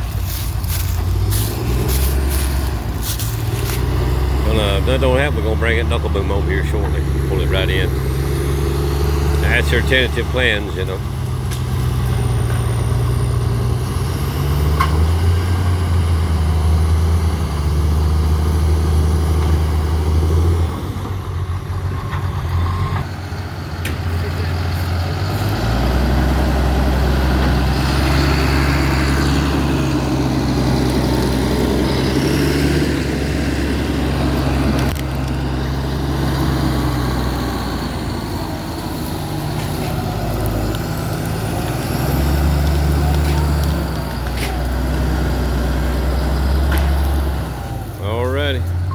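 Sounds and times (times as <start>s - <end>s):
diesel engine working under load: 0.0s - 48.9s.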